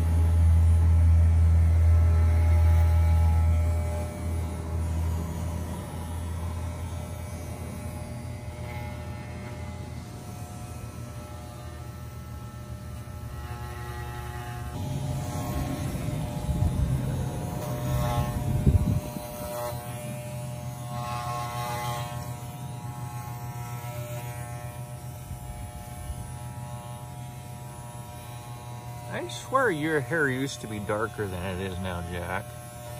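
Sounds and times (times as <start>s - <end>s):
electric dog clippers buzzing: 0.0s - 32.9s.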